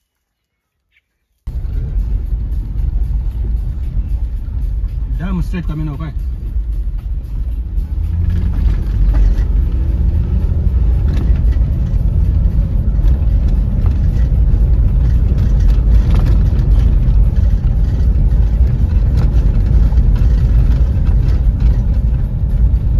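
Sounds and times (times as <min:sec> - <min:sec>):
vehicle engine and road noise: 0:01.4 - 0:22.9.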